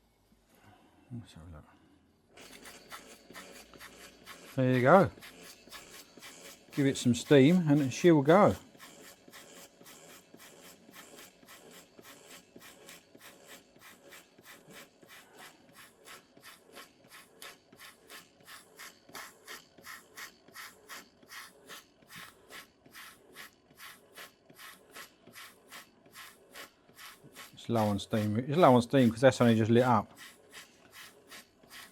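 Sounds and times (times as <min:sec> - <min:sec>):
steam engine exhaust chuffing: 0:02.9 - 0:31.9.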